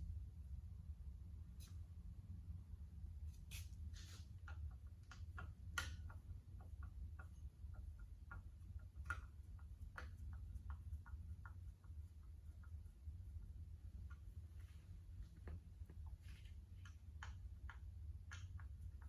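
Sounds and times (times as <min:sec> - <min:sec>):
steady low hum: 0:00.0 - 0:19.0
light clicks and taps: 0:03.5 - 0:19.0.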